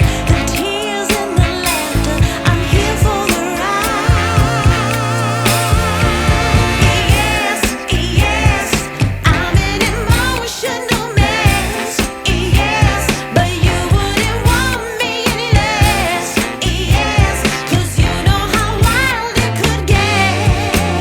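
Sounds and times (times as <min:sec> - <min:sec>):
music with singing and beat: 0:00.0 - 0:21.0.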